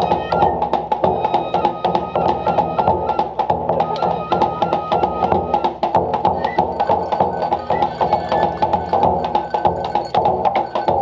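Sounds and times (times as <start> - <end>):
drum and wood block strokes: 0.0 - 11.0
high held tones: 0.0 - 11.0.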